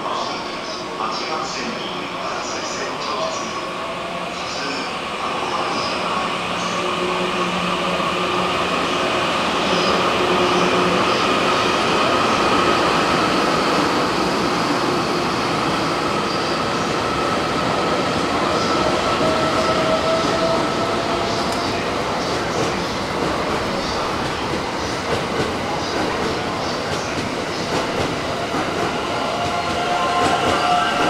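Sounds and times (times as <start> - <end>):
train rolling past: 0.0 - 31.0.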